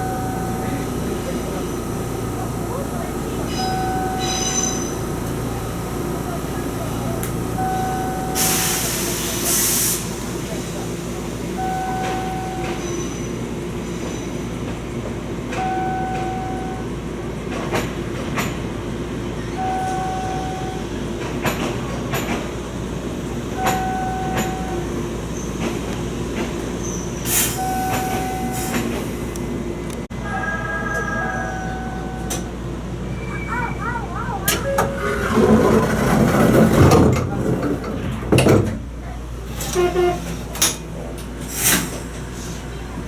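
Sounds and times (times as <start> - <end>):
standing electric train hum: 0.0 - 43.0.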